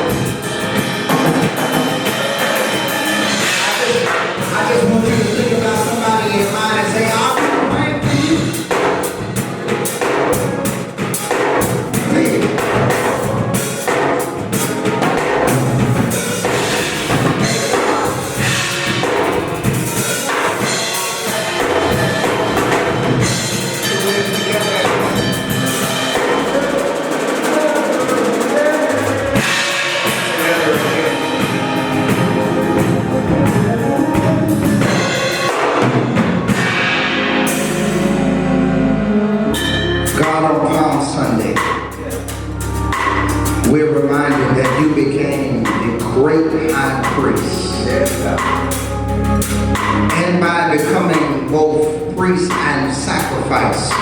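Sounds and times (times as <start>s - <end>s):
drum kit beat: 0.0s - 38.6s, 39.6s - 54.0s
band playing instrumental music: 0.0s - 54.0s.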